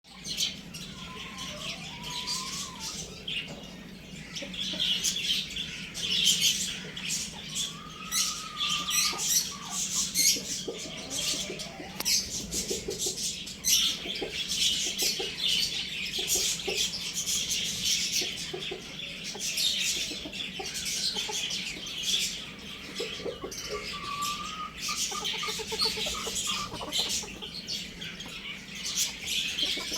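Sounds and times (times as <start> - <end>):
chickens clucking: 0.1 - 29.9.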